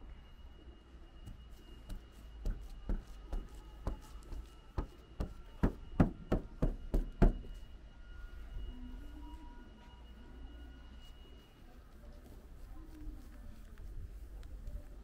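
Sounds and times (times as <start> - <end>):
faint high-pitched tone: 0.0 - 15.0.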